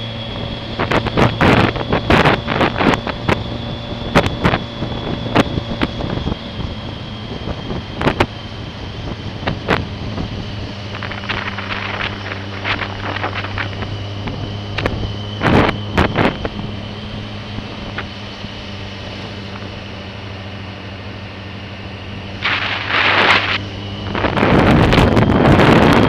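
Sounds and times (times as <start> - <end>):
motorcycle engine running: 0.0 - 26.0
wind buffeting microphone: 0.1 - 19.8, 22.2 - 26.0.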